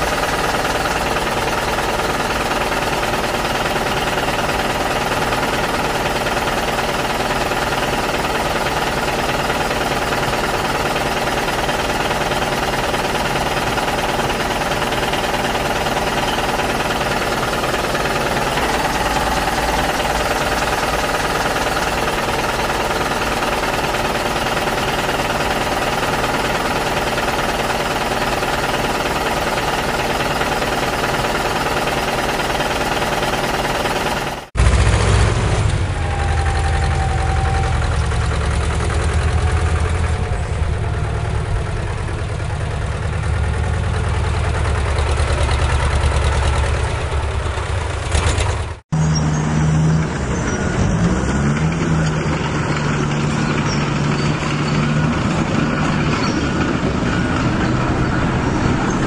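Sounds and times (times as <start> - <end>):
engine knocking clatter: 0.0 - 49.0, 50.3 - 59.0.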